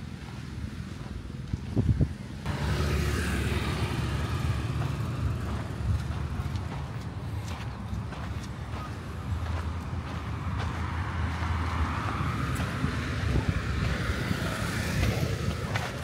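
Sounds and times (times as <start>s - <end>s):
vehicle engine running: 2.4s - 16.0s.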